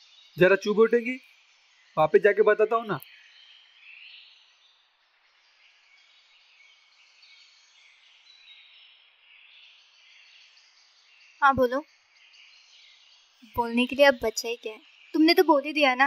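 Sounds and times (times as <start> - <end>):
faint high chirping: 0.0 - 16.0.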